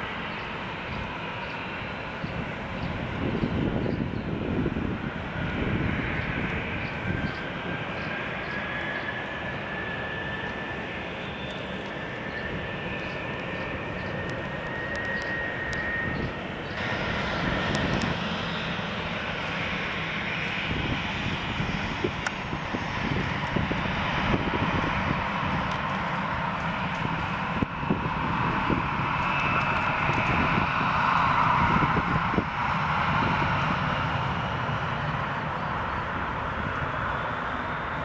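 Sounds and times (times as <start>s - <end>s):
jet engines rumbling and whining: 0.0s - 38.0s.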